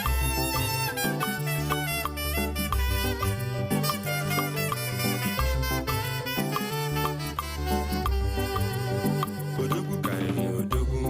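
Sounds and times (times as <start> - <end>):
music with brass and beat: 0.0 - 11.0.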